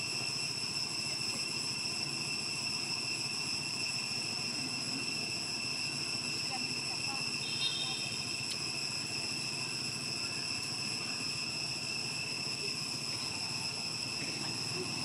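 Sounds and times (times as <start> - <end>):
high-pitched insect chorus: 0.0 - 15.0
insect trill: 0.0 - 15.0.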